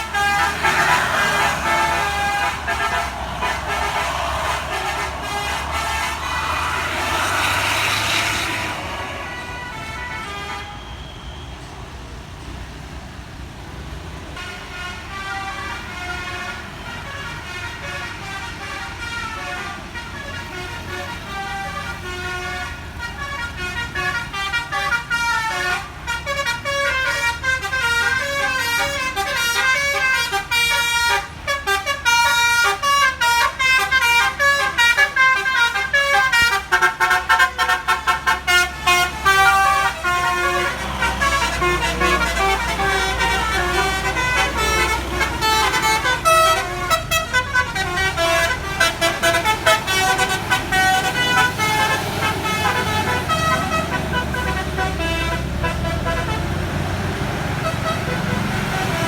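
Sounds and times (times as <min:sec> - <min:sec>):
bus engine running: 0:00.0 - 0:10.7, 0:11.4 - 0:59.0
bus melody horn playing a tune: 0:00.0 - 0:11.4, 0:14.3 - 0:59.0.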